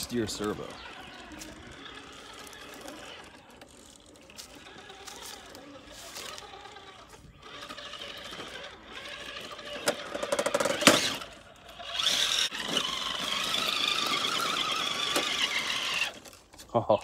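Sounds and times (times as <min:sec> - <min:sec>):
electric motor whining: 0:00.0 - 0:16.5
tyres clicking and scraping on rock: 0:00.0 - 0:17.0.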